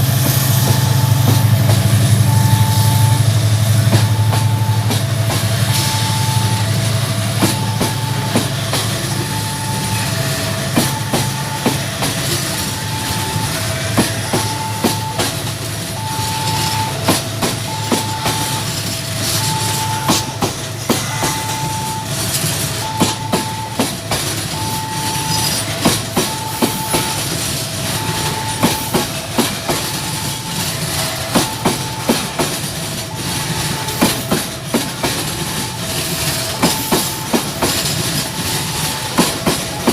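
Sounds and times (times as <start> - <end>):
deep locomotive hum: 0.0 - 39.9
train wheels clacking over rails: 0.0 - 39.9
two-tone level-crossing alarm: 0.0 - 39.9.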